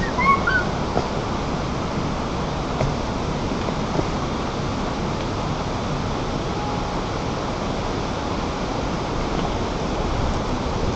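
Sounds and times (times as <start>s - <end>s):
steady rushing noise: 0.0s - 10.9s.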